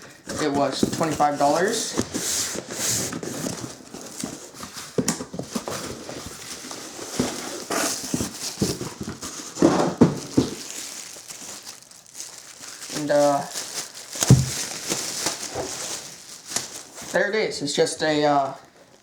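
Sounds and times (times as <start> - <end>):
packaging rustling and tearing: 0.0 - 17.4.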